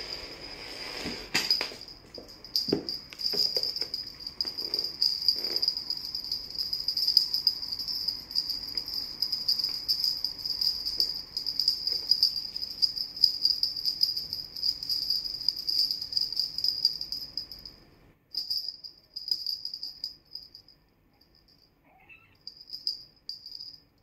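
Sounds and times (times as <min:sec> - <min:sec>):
small bells jingling: 0:00.0 - 0:24.0.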